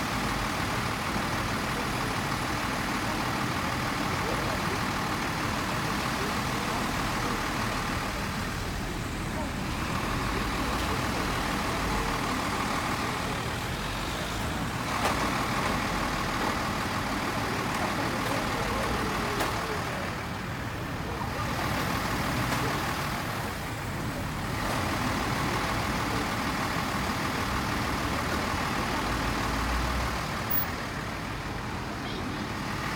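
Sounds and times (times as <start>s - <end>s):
road traffic passing: 0.0s - 32.9s.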